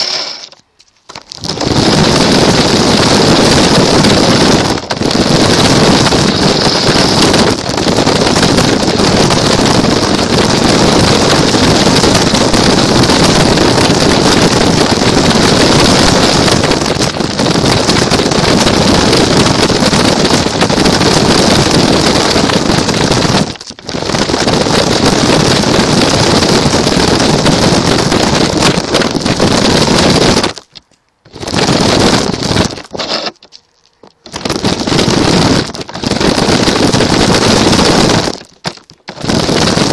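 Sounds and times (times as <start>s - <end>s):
wind and rumble on microphone: 1.1s - 39.9s.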